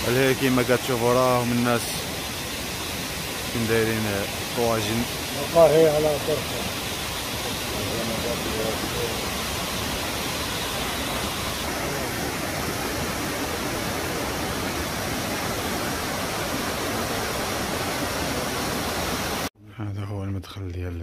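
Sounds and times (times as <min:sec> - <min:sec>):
waterfall rushing: 0:00.0 - 0:19.5.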